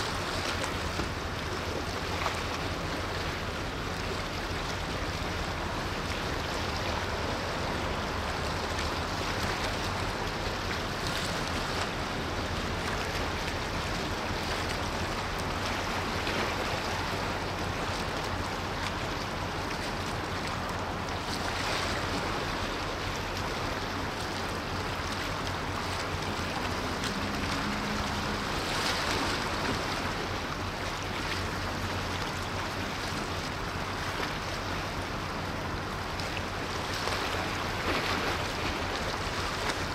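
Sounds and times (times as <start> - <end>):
water rushing: 0.0 - 39.9
wind: 0.0 - 39.9.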